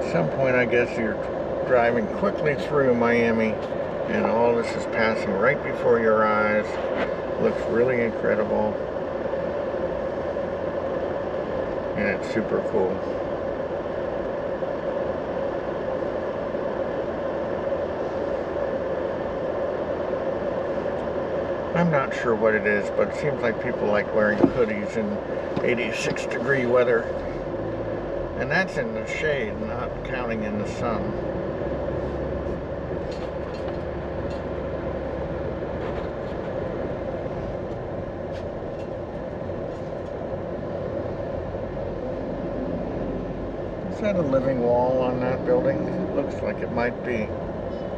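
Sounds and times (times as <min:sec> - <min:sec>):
car interior hum and hiss: 0:00.0 - 0:47.9.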